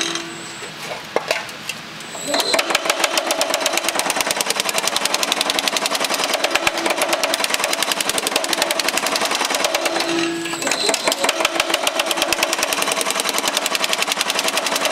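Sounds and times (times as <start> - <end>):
steady machine hum: 0.0 - 14.9
power hammer pounding sheet metal: 2.3 - 14.9.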